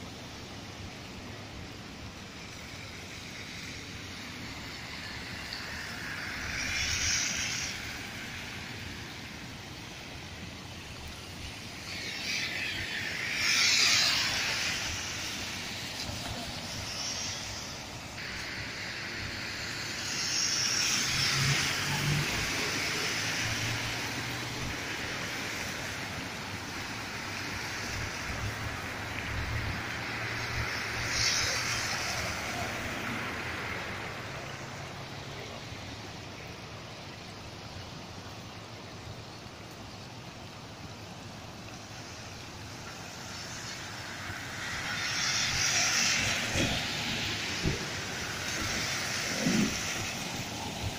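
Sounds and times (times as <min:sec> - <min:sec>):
tyres swishing through water: 0:00.0 - 0:50.9
water wash: 0:00.0 - 0:50.9.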